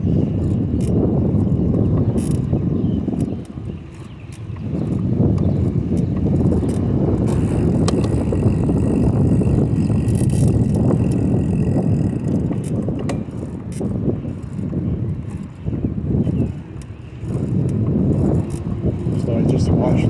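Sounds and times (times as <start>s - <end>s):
bicycle tyre noise: 0.0s - 20.0s
bike clicks and rattles: 0.0s - 20.0s
wind rumble on microphone: 0.0s - 20.0s.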